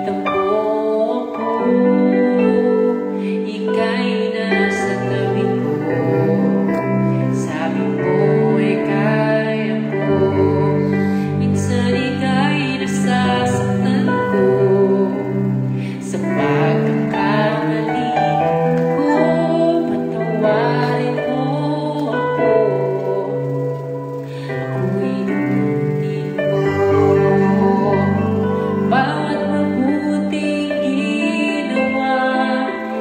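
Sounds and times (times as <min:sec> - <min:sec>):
person singing long notes: 0:00.0 - 0:33.0
sustained chords: 0:04.0 - 0:33.0.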